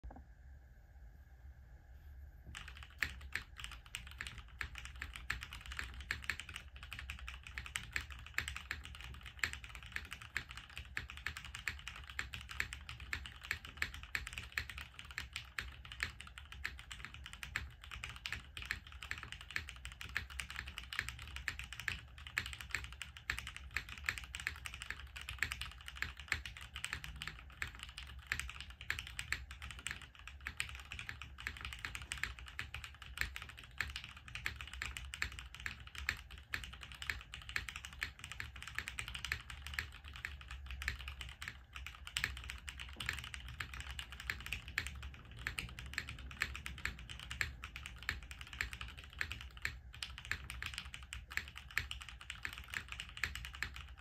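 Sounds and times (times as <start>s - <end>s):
fast mechanical keyboard typing: 2.5s - 54.0s.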